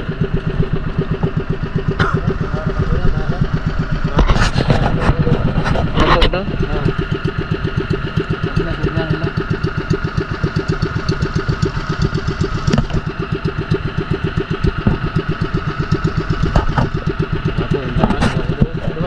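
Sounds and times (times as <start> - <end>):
boat engine putter: 0.0 - 19.0.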